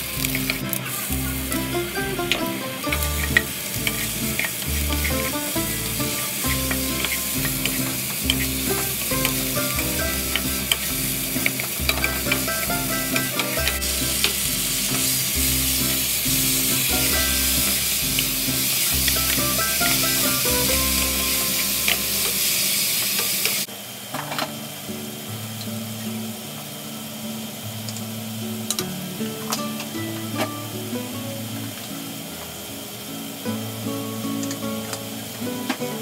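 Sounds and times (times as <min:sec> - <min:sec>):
background music: 0:00.0 - 0:22.5, 0:28.7 - 0:36.0
onions sizzling in hot oil: 0:00.0 - 0:23.7, 0:24.6 - 0:36.0.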